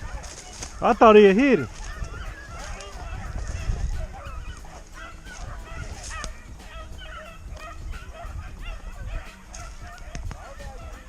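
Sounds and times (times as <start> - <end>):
hounds baying and yelping: 0.0 - 11.0.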